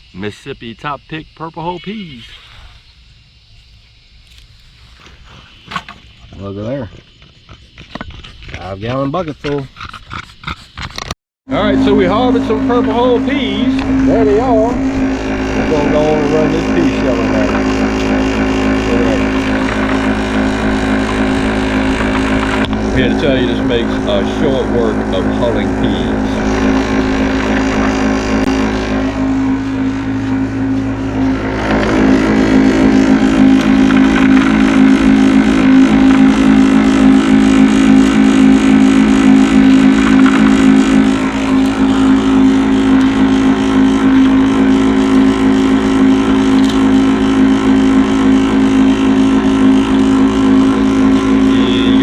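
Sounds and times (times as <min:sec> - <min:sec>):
pea sheller motor hum: 0:04.2 - 0:52.0.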